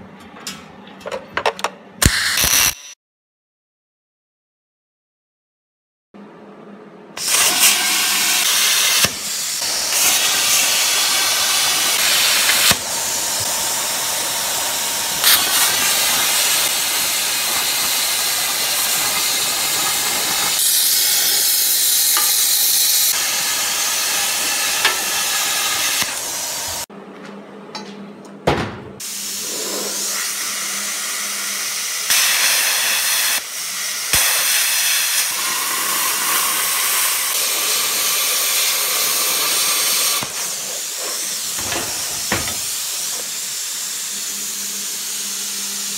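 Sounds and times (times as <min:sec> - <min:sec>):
plasma cutter hissing: 0:02.0 - 0:03.0, 0:07.2 - 0:26.9, 0:29.0 - 0:45.9.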